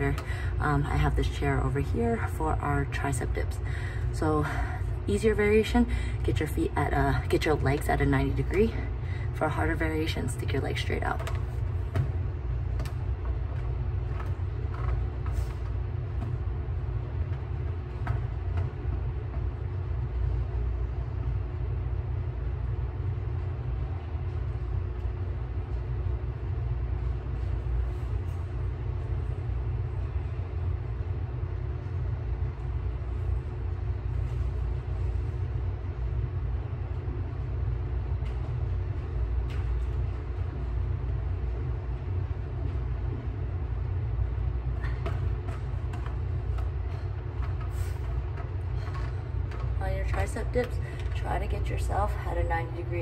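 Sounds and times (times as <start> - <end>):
faint constant hum: 0.0 - 53.0
ventilation system rumble: 0.0 - 53.0.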